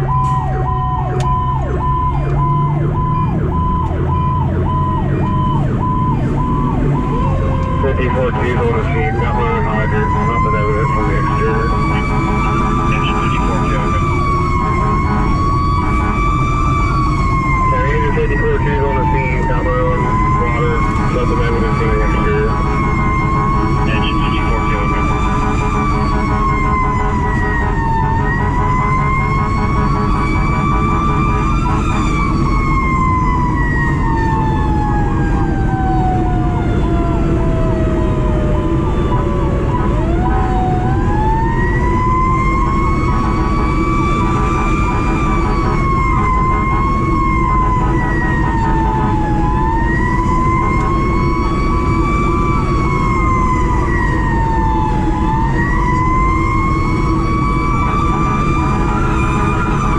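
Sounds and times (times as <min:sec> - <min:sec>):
fast pulsing siren tone: 0:00.0 - 0:59.9
mechanical siren wailing: 0:00.0 - 0:59.9
truck diesel engine drone: 0:00.0 - 0:59.9.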